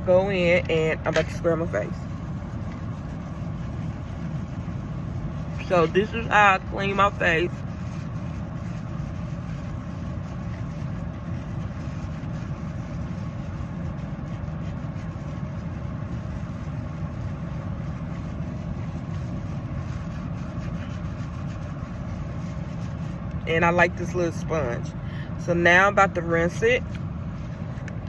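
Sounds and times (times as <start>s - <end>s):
vehicle rumble and hum: 0.0s - 28.0s.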